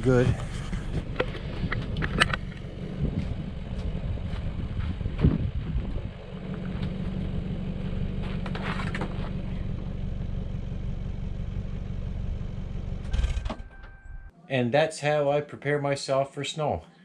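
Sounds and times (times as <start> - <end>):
truck engine idling: 0.0 - 14.3.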